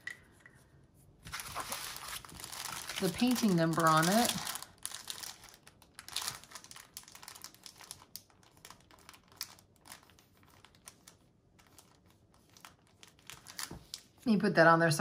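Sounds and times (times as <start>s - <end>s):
plastic bag crinkling: 1.3s - 14.2s.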